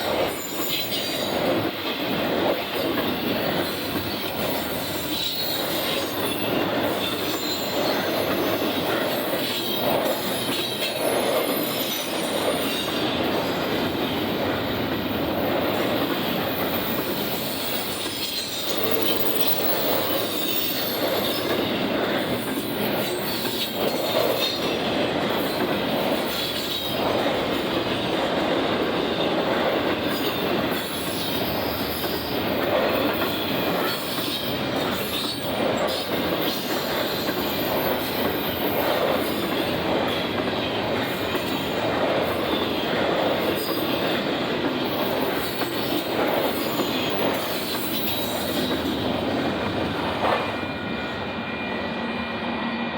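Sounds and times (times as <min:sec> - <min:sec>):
train wheels running on rails: 0:00.0 - 0:52.9.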